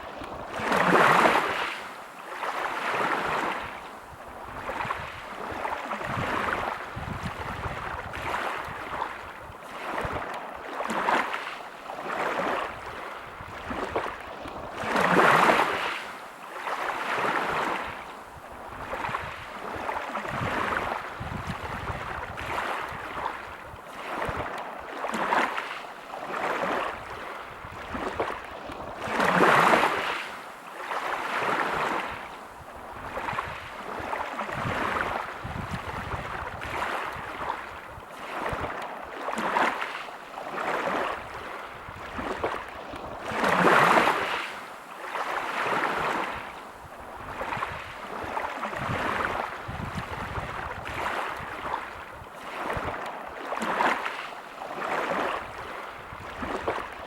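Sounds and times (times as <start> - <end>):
waves breaking on pebble beach: 0.0 - 3.8, 4.6 - 18.0, 18.8 - 32.3, 33.0 - 57.0.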